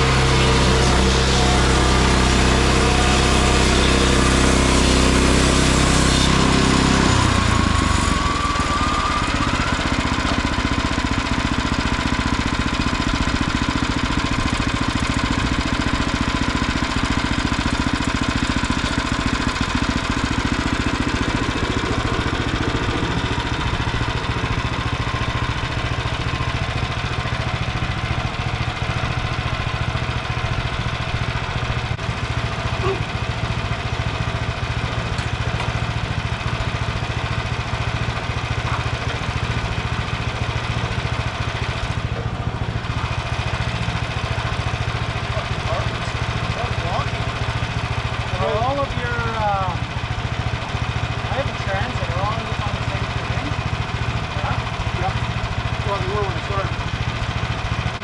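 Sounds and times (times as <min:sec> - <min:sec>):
small gas engine running: 0:00.0 - 0:58.0.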